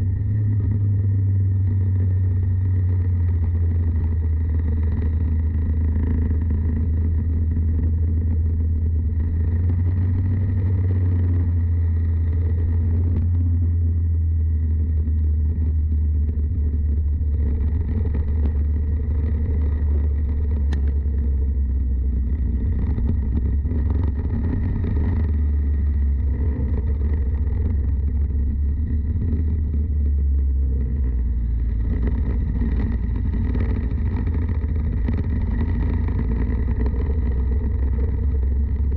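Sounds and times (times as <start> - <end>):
kart engine running: 0.0 - 38.9.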